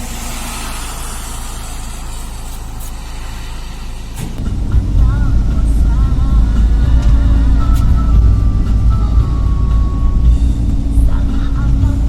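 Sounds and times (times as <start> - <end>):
low engine hum: 0.0 - 12.0
road noise hiss: 0.0 - 12.0.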